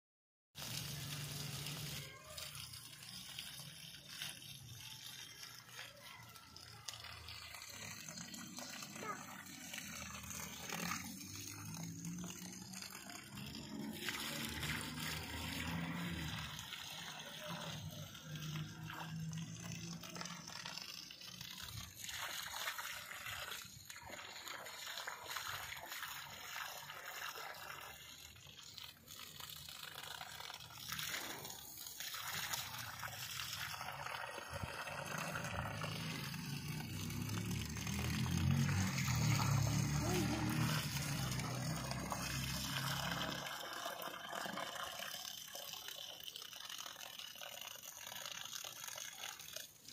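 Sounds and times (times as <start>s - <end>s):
water from hose splashing: 0.5s - 49.9s.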